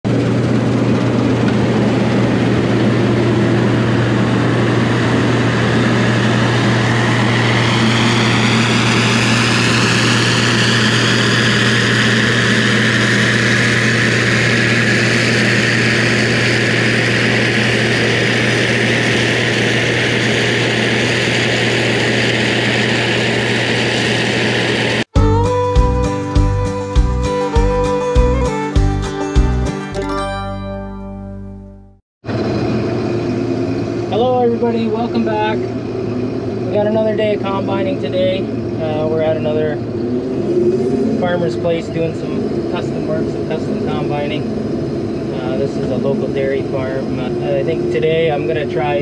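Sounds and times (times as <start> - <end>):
high machinery whine: 0.1 - 26.4, 32.2 - 49.0
combine harvester engine drone: 0.1 - 29.7, 32.2 - 49.0.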